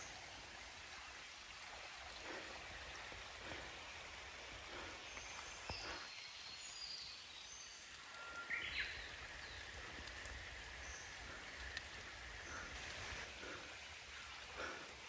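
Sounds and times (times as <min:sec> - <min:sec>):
rain and stream hiss: 0:00.0 - 0:15.0.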